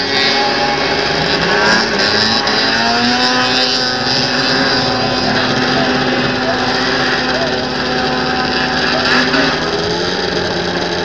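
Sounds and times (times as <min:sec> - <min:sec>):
snowmobile engine at high revs: 0:00.0 - 0:11.0.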